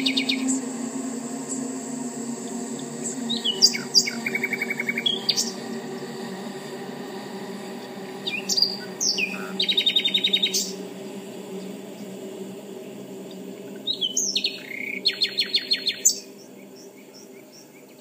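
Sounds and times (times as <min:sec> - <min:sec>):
songbird singing with trills: 0:00.0 - 0:10.9, 0:12.8 - 0:18.0
steady low hum: 0:00.0 - 0:18.0.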